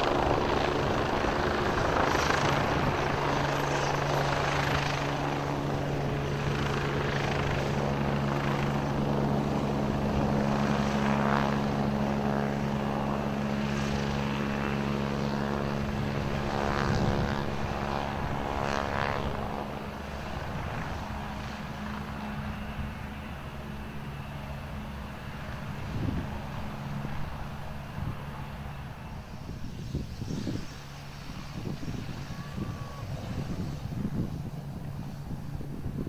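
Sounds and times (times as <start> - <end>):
helicopter turbine whine and rotor: 0.0 - 36.0.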